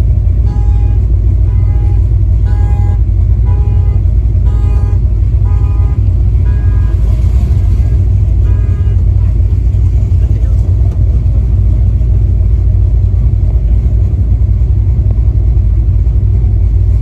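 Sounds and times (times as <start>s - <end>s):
pickup truck engine and road rumble: 0.0s - 17.0s.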